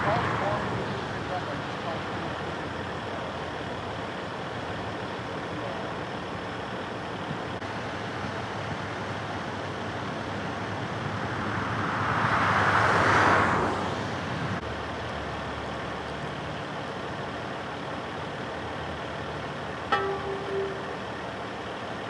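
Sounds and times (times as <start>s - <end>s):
freeway traffic rumble: 0.0s - 22.0s.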